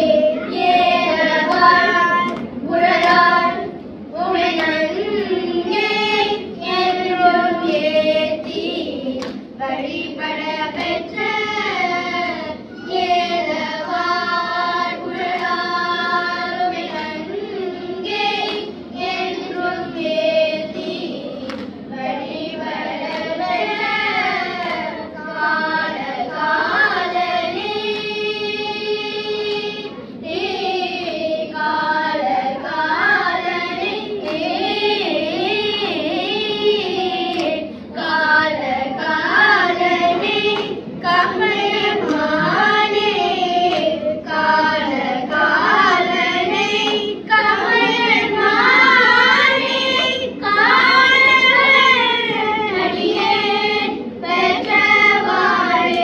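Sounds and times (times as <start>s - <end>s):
children singing a hymn: 0.0s - 56.0s.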